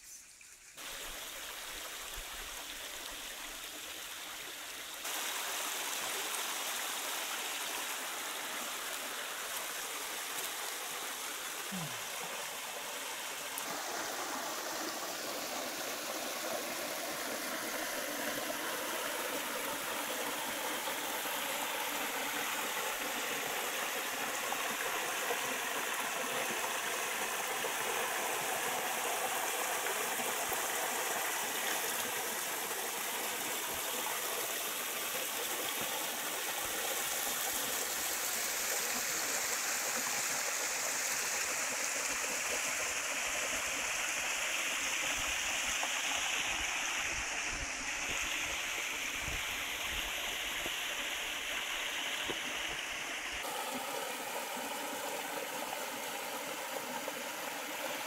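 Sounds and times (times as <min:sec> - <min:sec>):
stream pouring over cascade: 0:00.0 - 0:58.0.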